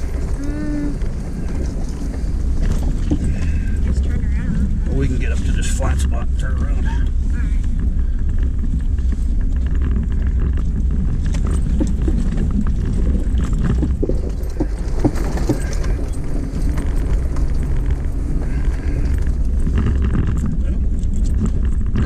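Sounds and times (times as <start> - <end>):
suspension knocks and rattles: 0.0 - 22.0
vehicle engine rumble: 0.0 - 22.0.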